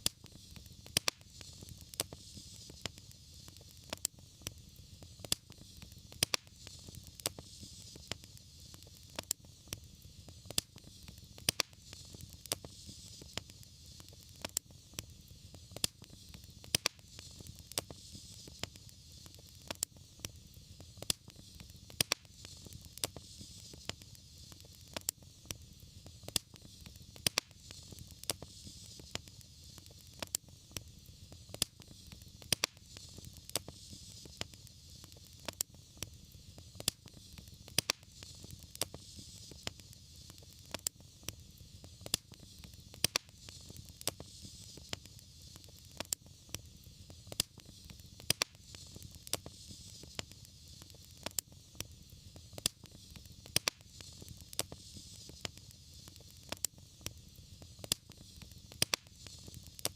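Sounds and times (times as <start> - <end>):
fire crackling and popping: 0.0 - 59.9
flames hissing and rumbling: 0.0 - 59.9.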